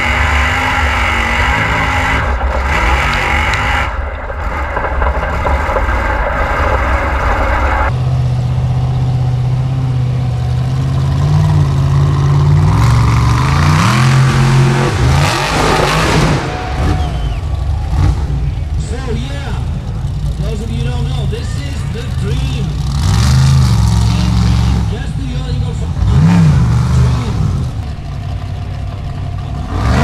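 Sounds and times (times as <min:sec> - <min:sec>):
buggy engine revving: 0:00.0 - 0:30.0.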